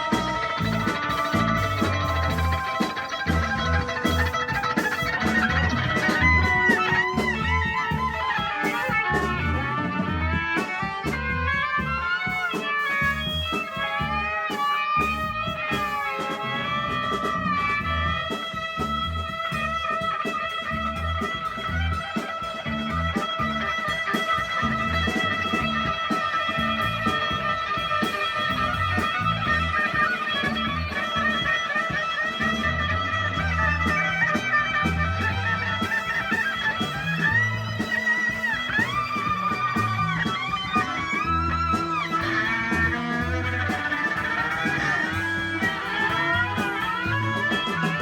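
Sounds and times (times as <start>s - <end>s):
bass line: 0.0s - 48.0s
drums: 0.0s - 48.0s
electric guitar bending notes: 0.0s - 48.0s.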